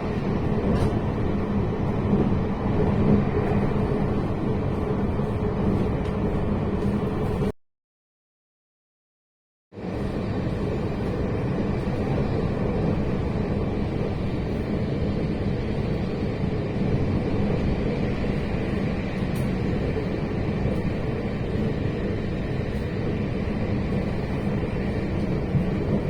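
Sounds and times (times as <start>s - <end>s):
constant low hum: 0.0s - 7.5s, 9.9s - 26.0s
train running rumble: 0.0s - 7.5s, 9.8s - 26.0s.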